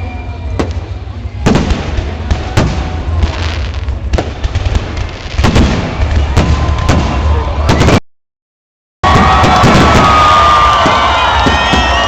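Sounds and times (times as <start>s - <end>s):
fireworks crackling: 0.6s - 8.0s, 9.1s - 12.0s.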